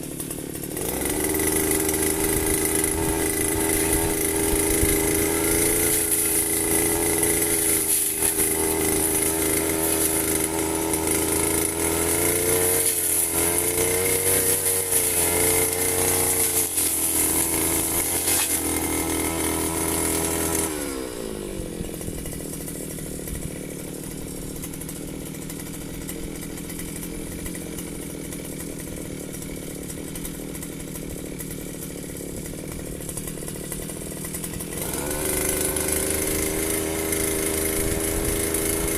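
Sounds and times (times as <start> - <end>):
brush cutter engine running: 0.0 - 38.9.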